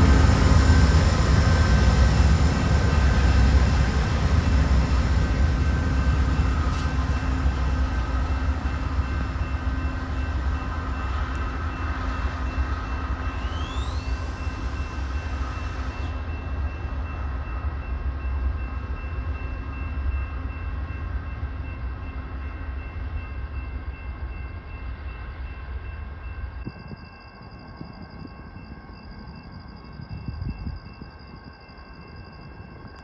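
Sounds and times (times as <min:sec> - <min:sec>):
diesel locomotive low rumble: 0:00.0 - 0:33.0.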